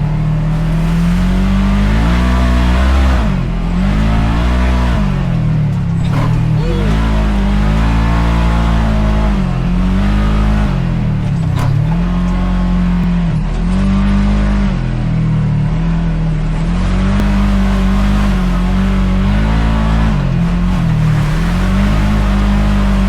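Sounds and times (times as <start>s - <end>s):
engine revving under load: 0.0s - 23.0s.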